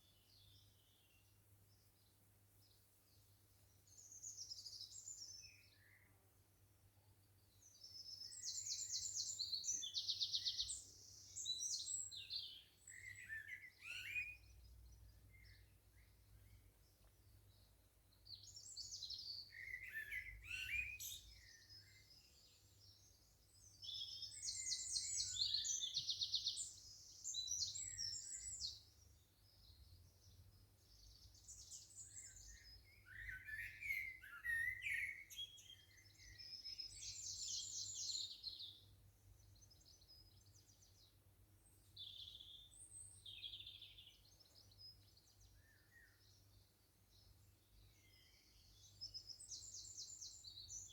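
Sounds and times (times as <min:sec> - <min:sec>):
birds singing with trills: 0:07.6 - 0:16.7, 0:18.3 - 0:50.9.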